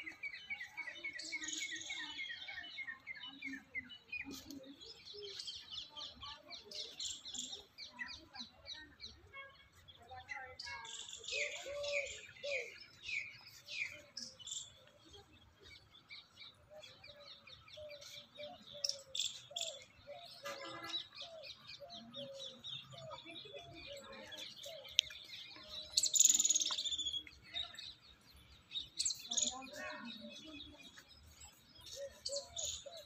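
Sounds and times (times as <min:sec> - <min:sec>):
birds chirping and calling: 0:00.0 - 0:33.0.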